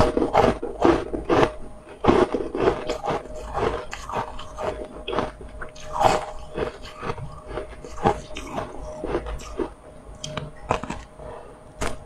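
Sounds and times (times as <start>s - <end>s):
crunchy biting and chewing: 0.0s - 12.0s.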